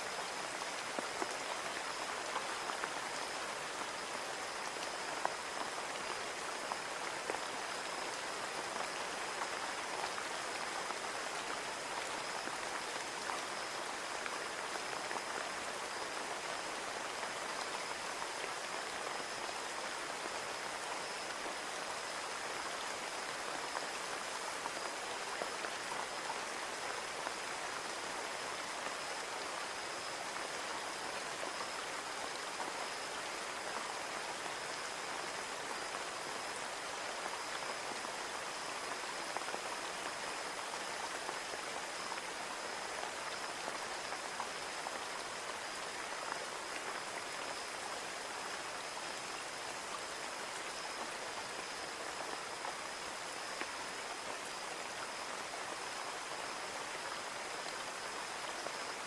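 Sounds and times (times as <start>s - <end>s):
rain pattering on a window: 0.0s - 59.0s.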